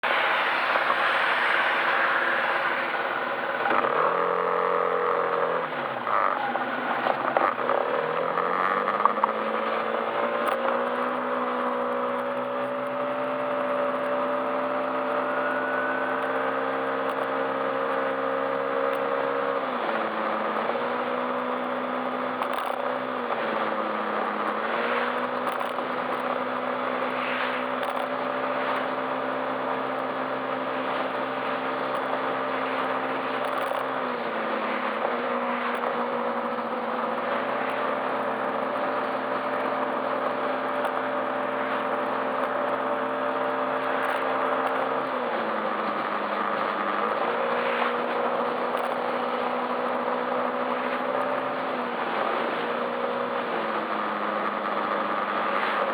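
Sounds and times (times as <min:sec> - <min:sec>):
scooter engine accelerating: 0:00.0 - 0:55.9
wind and road noise: 0:00.0 - 0:55.9.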